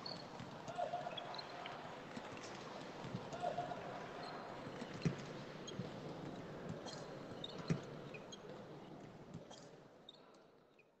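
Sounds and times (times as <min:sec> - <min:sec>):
sports hall background noise: 0:00.0 - 0:11.0.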